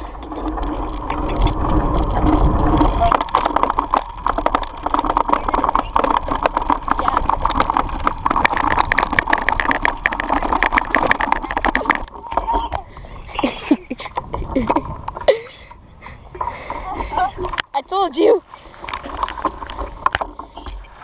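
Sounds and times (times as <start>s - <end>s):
bicycle rattling over rough ground: 0.0s - 21.0s
wind buffeting microphone: 0.0s - 21.0s.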